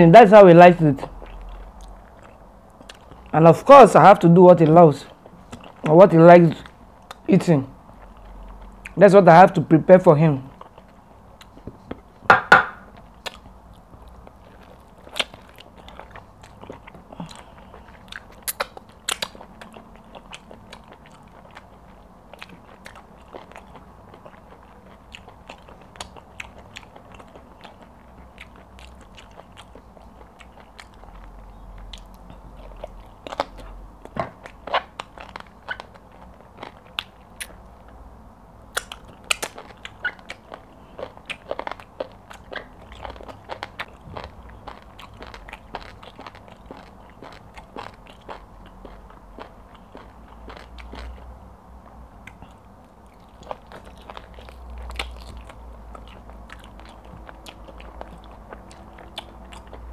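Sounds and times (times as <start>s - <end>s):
chewing with mouth clicks: 1.0s - 3.4s, 4.6s - 9.0s, 10.4s - 38.0s, 38.7s - 59.9s.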